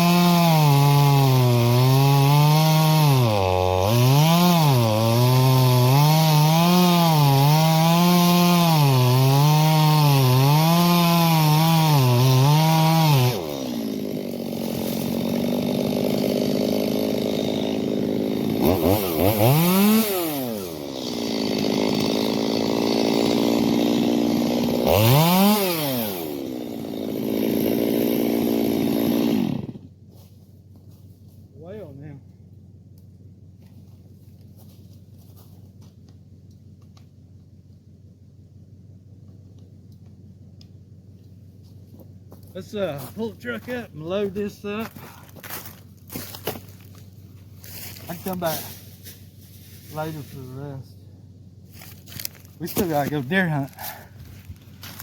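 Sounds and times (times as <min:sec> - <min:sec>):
chainsaw cutting wood: 0:00.0 - 0:30.0, 0:39.2 - 0:55.0.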